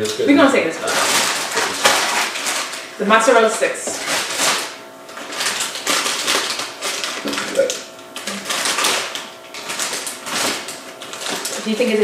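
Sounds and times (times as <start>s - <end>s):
plastic snack pouch crinkling: 0.9s - 2.9s, 4.0s - 11.9s.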